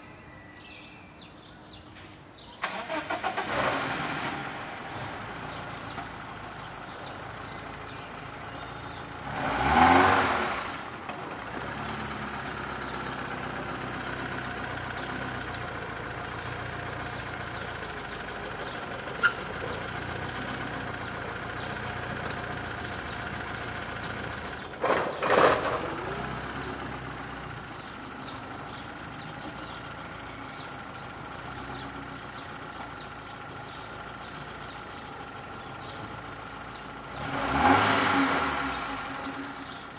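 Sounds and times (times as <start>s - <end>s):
passing vehicle: 2.6s - 39.9s
car engine idling: 4.4s - 39.9s.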